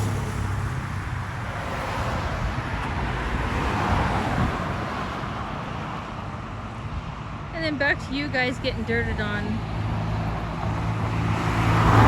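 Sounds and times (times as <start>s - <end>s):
car passing by: 0.0s - 6.9s, 9.1s - 12.0s.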